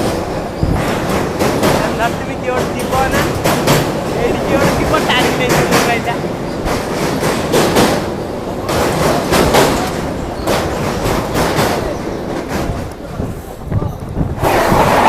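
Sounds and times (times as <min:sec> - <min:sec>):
electric train rumble: 0:00.0 - 0:15.0
wheels knocking and clattering: 0:00.0 - 0:15.0.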